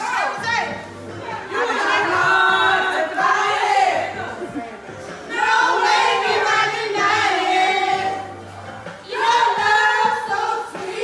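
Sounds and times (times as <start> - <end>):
faint backing track: 0.0 - 11.0
people singing karaoke: 0.0 - 11.0.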